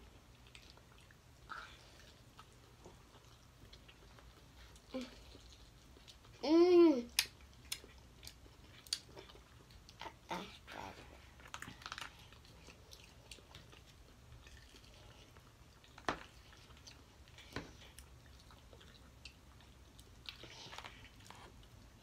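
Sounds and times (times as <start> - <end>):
people chewing: 0.0 - 6.4, 7.1 - 22.0
low steady hum: 0.0 - 22.0.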